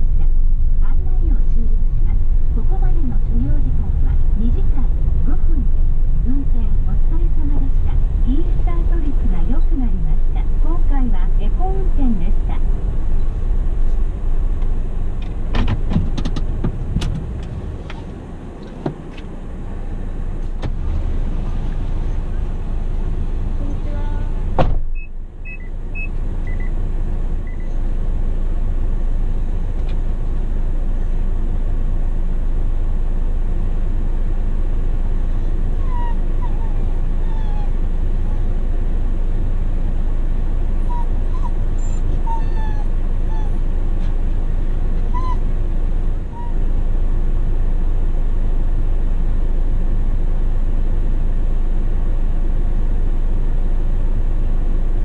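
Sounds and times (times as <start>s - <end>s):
car road noise from inside: 0.0s - 55.0s.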